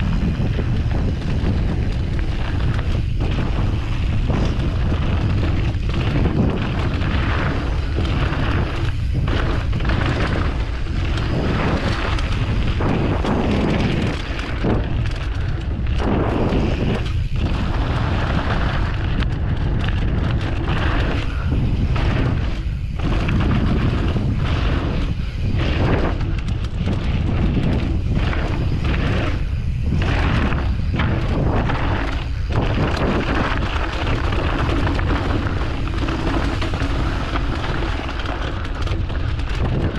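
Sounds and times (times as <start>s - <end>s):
tyres rushing on dirt trail: 0.0s - 39.9s
wind buffeting microphone: 0.0s - 39.9s.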